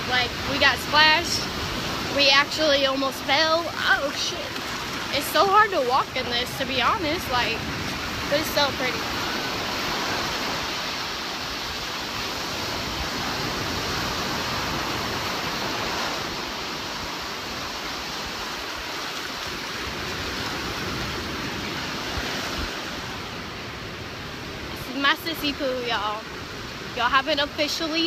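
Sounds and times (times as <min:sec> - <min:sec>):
surf breaking on beach: 0:00.0 - 0:28.0.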